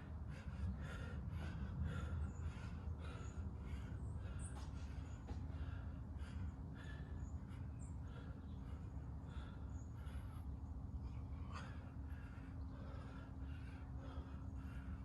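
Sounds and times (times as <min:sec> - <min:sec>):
person panting: 0:00.0 - 0:15.0
steady low hum: 0:00.0 - 0:15.0.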